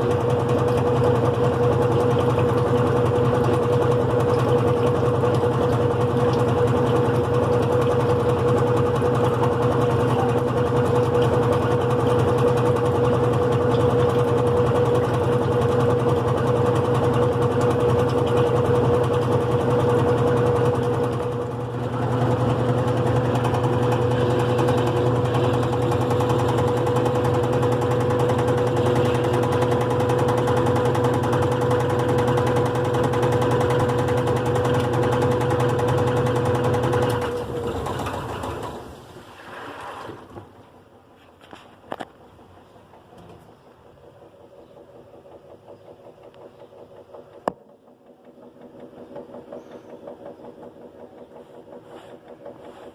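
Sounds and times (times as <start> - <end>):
washing machine motor hum: 0.0 - 39.4, 41.8 - 52.9.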